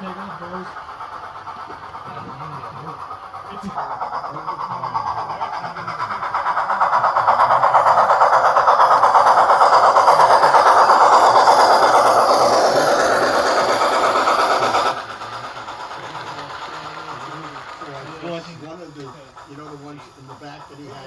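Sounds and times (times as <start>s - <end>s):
model train clattering on track: 0.0s - 21.0s.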